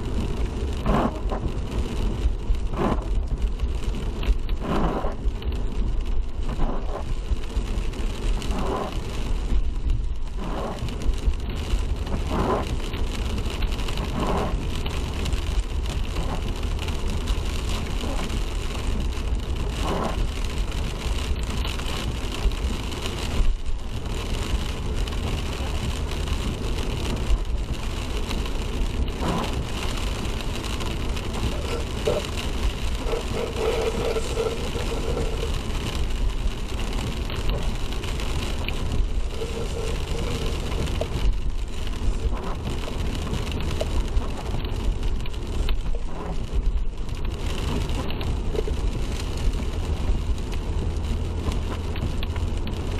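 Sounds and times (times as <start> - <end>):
road and engine rumble: 0.0 - 52.9
tyre and rain hiss: 0.0 - 52.9.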